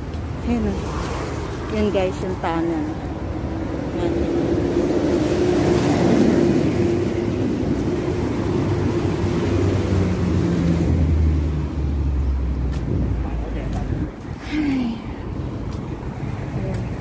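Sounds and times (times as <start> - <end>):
vehicles passing on busy road: 0.0 - 17.0
heavy vehicle engine hum: 2.4 - 17.0.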